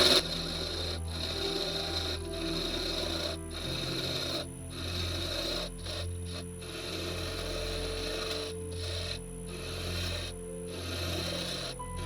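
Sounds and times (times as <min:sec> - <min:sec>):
scraper rasping on wood: 0:00.0 - 0:12.0
wood lathe hum: 0:00.0 - 0:12.0.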